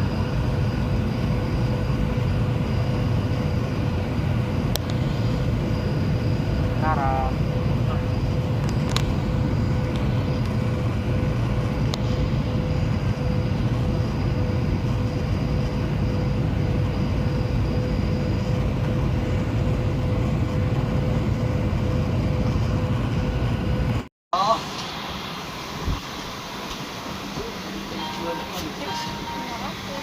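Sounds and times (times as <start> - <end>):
airliner cabin engine rush: 0.0 - 30.0
steady hum: 0.0 - 30.0.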